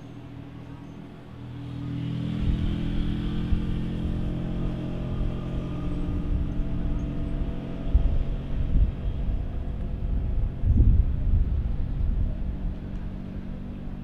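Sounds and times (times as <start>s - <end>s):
low droning rumble with held tones: 2.4s - 14.0s.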